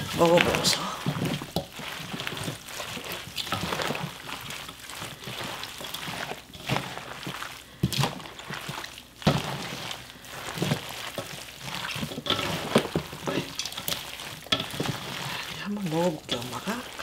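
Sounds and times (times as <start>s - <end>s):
wet squishing of leaves: 0.0s - 17.0s.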